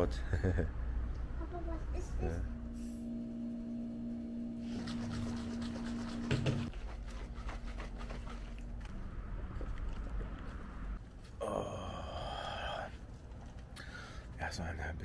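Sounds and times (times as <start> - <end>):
steady hum: 0.0 - 13.7.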